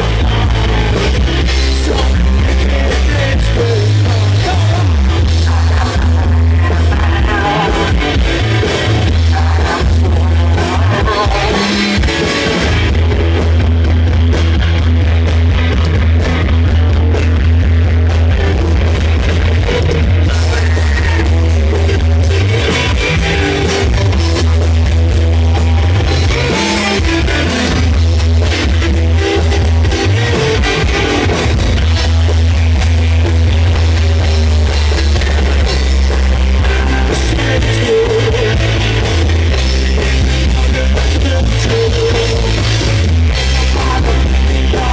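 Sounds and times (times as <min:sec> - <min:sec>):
booming bass line: 0:00.0 - 0:44.9
live rock band playing: 0:00.0 - 0:44.9.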